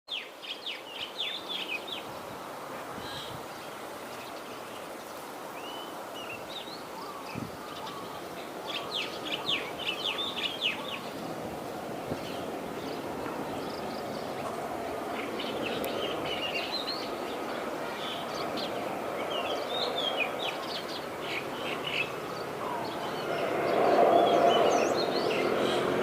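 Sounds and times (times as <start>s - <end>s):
small birds chirping: 0.1s - 2.2s, 3.0s - 26.0s
outdoor background noise: 0.1s - 26.0s.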